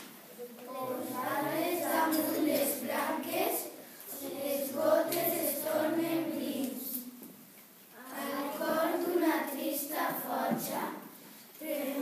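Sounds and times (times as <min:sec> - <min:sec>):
children's voices in unison: 0:00.4 - 0:07.2, 0:08.0 - 0:12.0.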